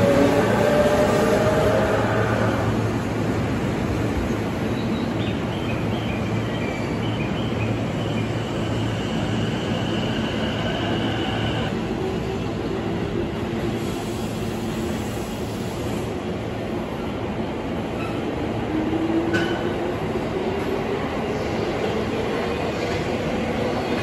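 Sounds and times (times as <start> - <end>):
electric train departing: 0.0 - 24.0
high train whine: 0.0 - 24.0.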